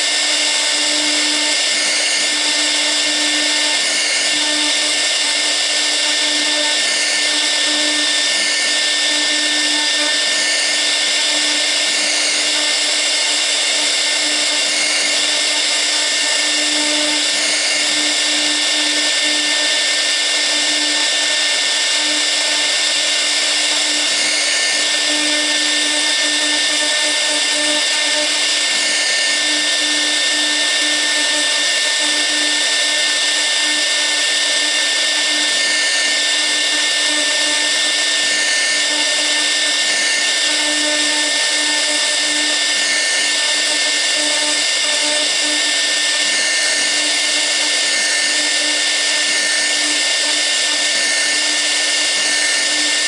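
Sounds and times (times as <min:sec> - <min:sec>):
router spindle high whine: 0:00.0 - 0:53.0.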